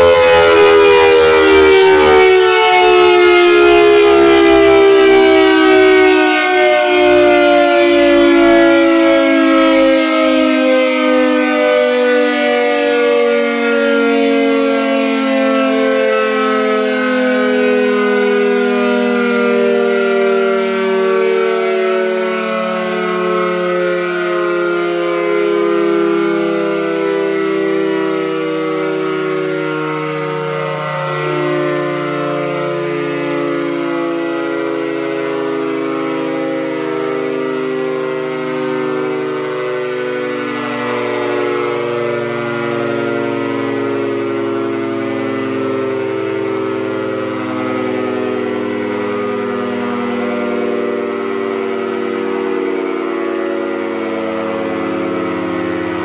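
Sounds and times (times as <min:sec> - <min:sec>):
air raid siren wailing: 0:00.0 - 0:56.0.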